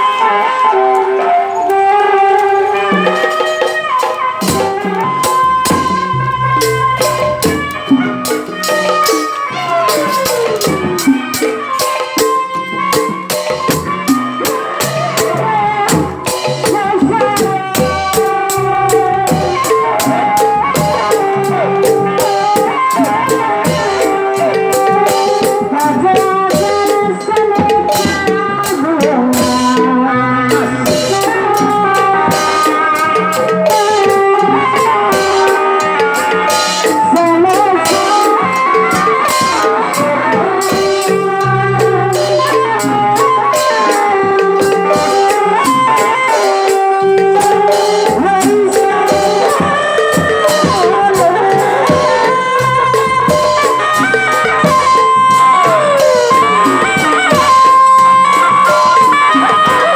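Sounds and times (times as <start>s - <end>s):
music with percussion beat: 0.0s - 59.9s.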